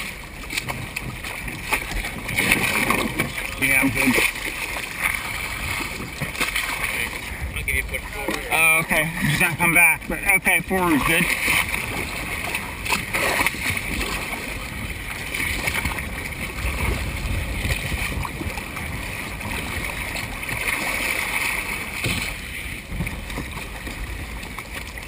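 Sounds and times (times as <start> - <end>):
wind rumble on microphone: 0.0 - 10.2, 10.9 - 25.0
water splashing against kayak hull: 0.0 - 25.0.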